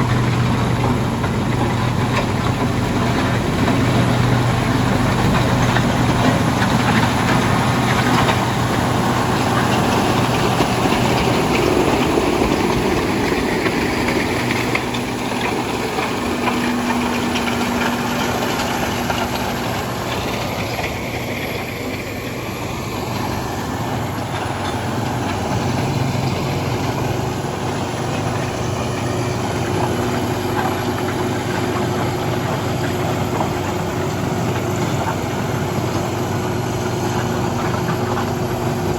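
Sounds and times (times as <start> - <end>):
diesel construction equipment running: 0.0 - 38.9.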